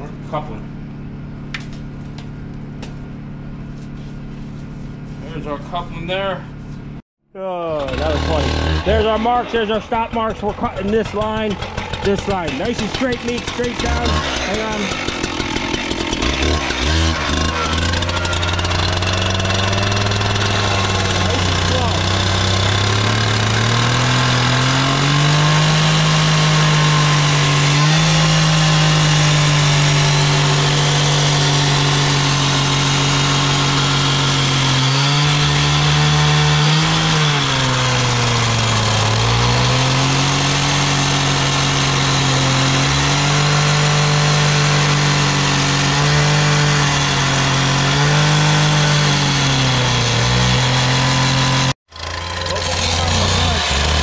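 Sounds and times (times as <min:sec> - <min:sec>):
cut-off saw cutting pipe: 0:07.6 - 0:54.0.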